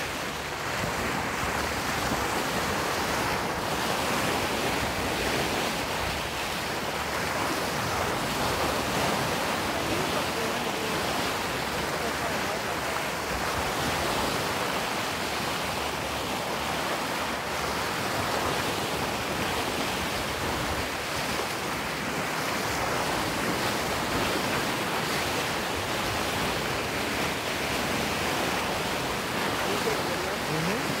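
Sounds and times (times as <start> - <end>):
water rushing along boat bow: 0.0 - 31.0.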